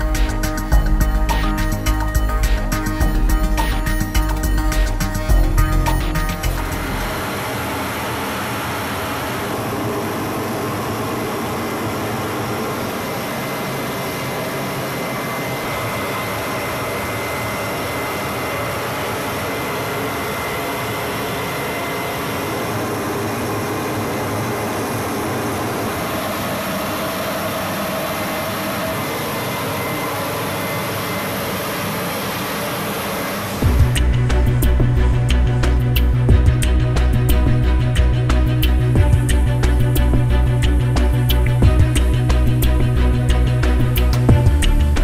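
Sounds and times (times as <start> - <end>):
aircraft engine roar: 0.0 - 45.0
high engine whine: 0.0 - 45.0.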